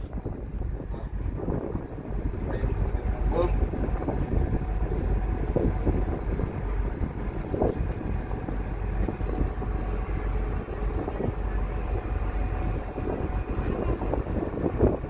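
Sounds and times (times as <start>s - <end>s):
ferry engines droning: 0.0s - 15.0s.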